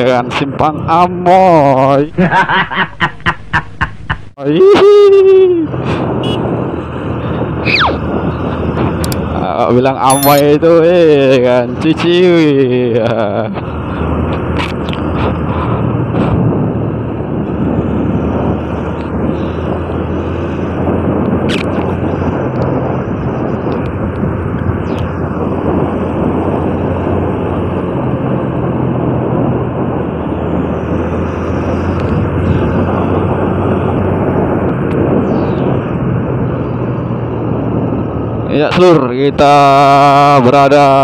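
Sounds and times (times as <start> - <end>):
wind rushing on microphone: 4.4 - 41.0.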